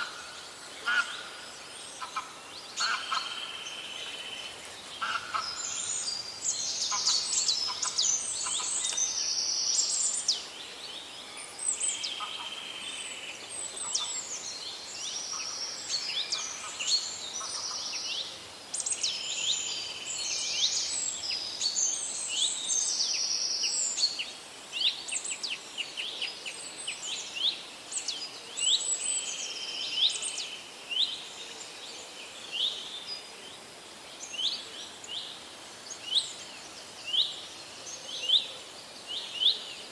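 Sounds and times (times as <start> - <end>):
forest birds singing and calling: 0.0 - 39.9.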